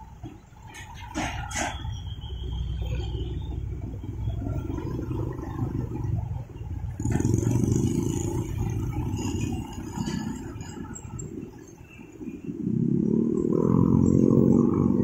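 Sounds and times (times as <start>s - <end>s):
motorbikes passing: 0.0s - 15.0s
truck engines running: 0.0s - 15.0s.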